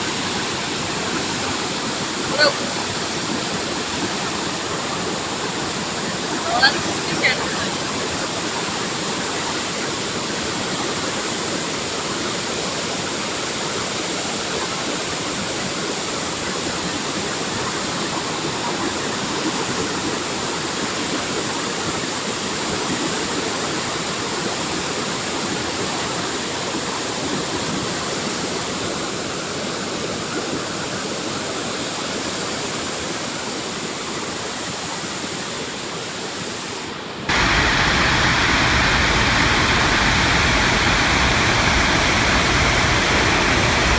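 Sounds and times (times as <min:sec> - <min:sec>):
water rushing from dam: 0:00.0 - 0:43.9.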